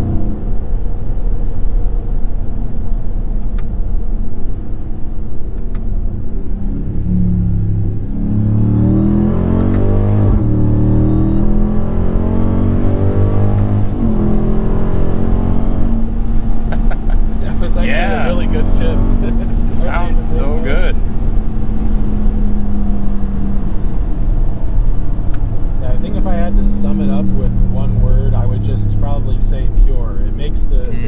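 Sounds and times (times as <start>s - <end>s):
truck engine accelerating: 5.8s - 31.0s.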